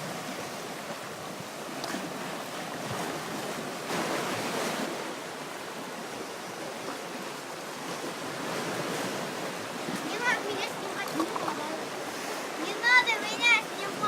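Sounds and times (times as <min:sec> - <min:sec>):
waves washing onto shore: 0:00.0 - 0:14.0.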